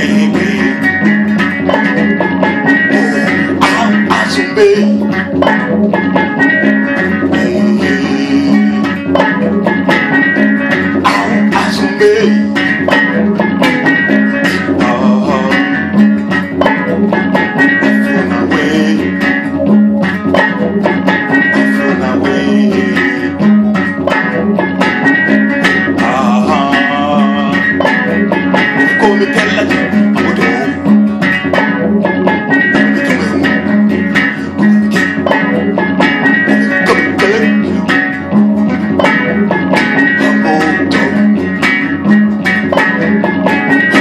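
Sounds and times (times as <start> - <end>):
plucked harp-lute groove: 0.0 - 44.0.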